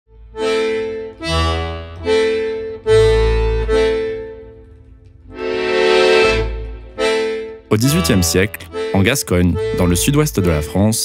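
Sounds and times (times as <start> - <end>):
accordion chords: 0.1 - 11.0.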